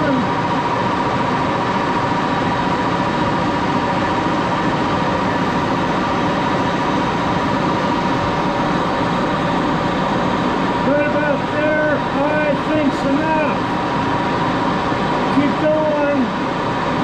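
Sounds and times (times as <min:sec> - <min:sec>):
metal lathe humming and whining: 0:00.0 - 0:17.0.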